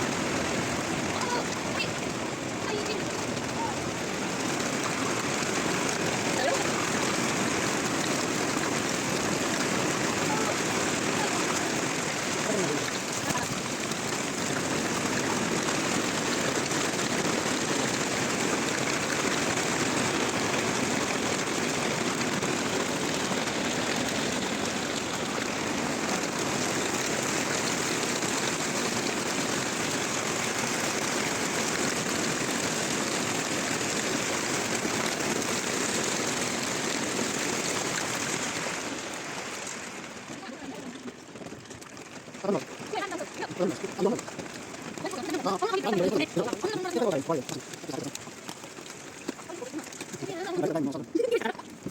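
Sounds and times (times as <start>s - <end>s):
hailstones pelting down: 0.0s - 51.9s.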